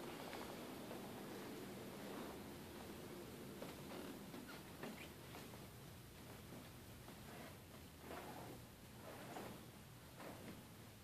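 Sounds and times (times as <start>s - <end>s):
faint hum: 0.0s - 11.0s
low hiss: 0.0s - 11.0s.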